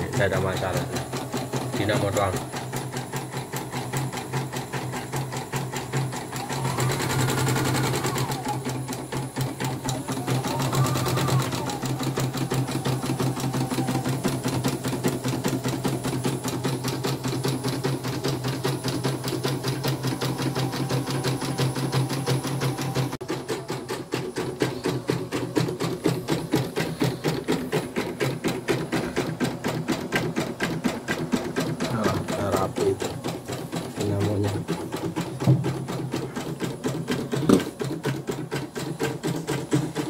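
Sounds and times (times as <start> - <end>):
embroidery machine stitching: 0.0 - 40.0.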